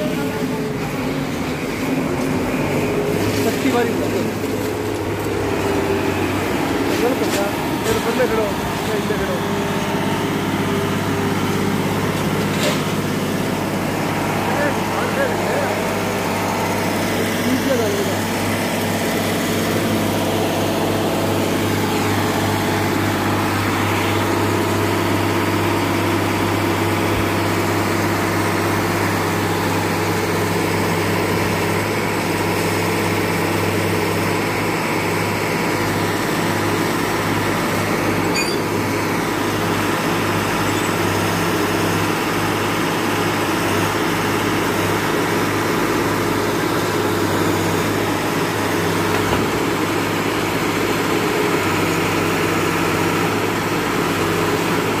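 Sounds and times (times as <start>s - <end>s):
track maintenance machine engine droning: 0.0s - 55.0s.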